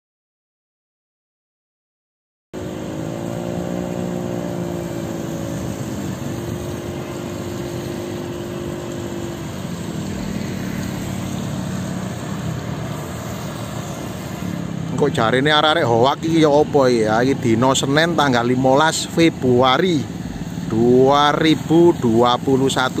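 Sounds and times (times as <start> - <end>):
low engine hum: 2.6 - 23.0
steady hiss: 2.6 - 23.0
vehicle engines running: 2.6 - 23.0.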